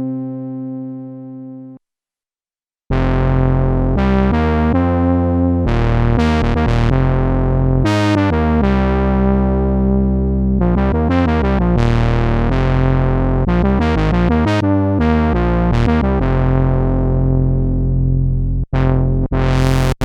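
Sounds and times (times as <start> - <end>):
analog synthesizer bass riff: 0.0 - 1.8, 2.9 - 20.0.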